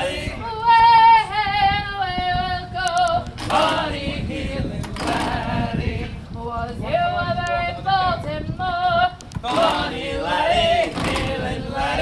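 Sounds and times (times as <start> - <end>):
woman singing unaccompanied: 0.4 - 12.0.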